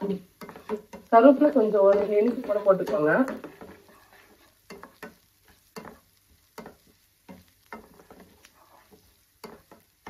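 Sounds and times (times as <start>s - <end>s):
faint sizzle of frying oil: 0.0s - 10.0s
wooden spatula scraping pan: 0.0s - 10.0s.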